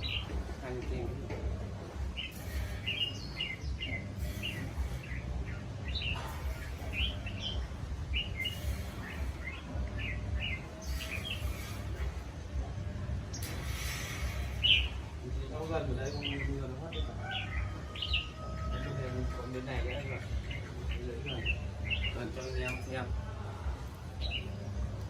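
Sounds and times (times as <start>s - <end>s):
rustling hiss: 0.0s - 25.0s
small birds chirping: 0.0s - 25.0s
steady low rumble: 0.0s - 25.0s.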